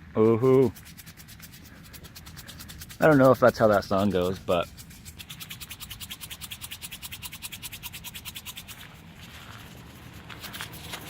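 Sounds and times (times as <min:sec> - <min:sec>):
container shaken by hand: 0:00.4 - 0:11.0.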